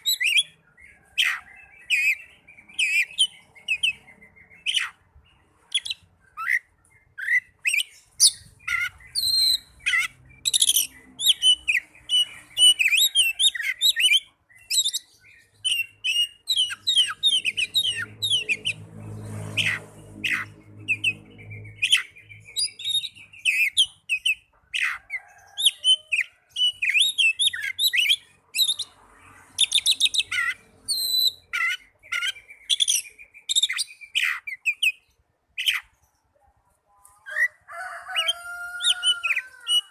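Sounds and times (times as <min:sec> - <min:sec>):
songbird whistling and chirping: 0:00.0 - 0:18.8, 0:19.6 - 0:36.0.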